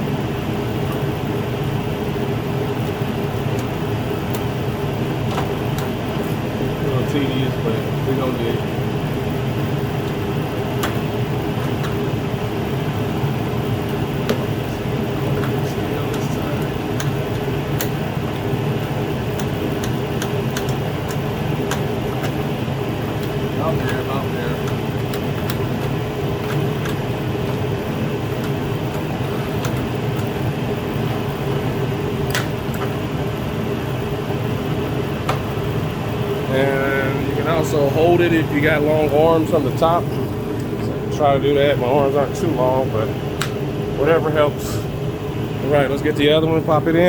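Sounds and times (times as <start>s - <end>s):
steady mechanical drone: 0.0s - 47.0s.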